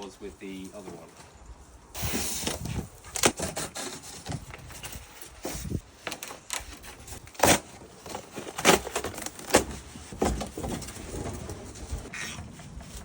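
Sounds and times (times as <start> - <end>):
cardboard scraping and rustling: 2.0 - 13.0.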